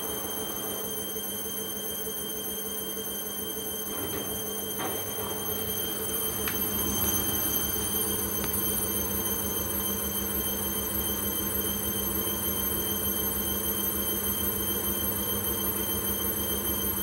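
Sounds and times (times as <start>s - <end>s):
washing machine spin cycle: 0.0s - 17.0s.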